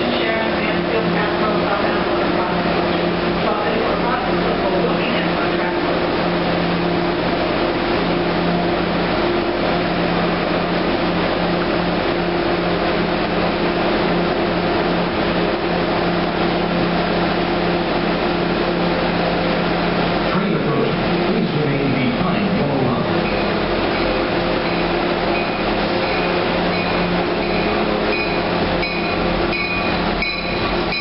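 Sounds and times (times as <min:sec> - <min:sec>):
train passing: 0:00.0 - 0:31.0
wheels rushing on rails: 0:00.0 - 0:31.0.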